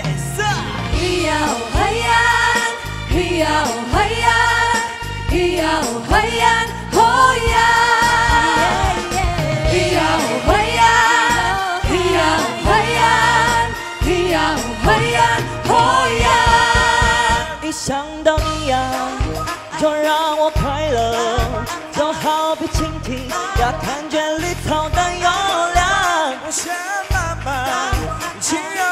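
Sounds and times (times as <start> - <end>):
backing track with bass line: 0.0 - 26.3, 27.1 - 28.6
vocal group singing pop song: 0.0 - 28.9.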